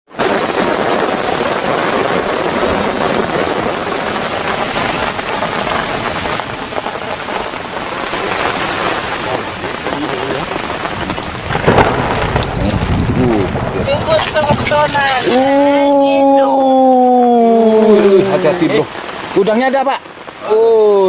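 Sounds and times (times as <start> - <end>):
heavy rain pouring: 0.1 - 21.0.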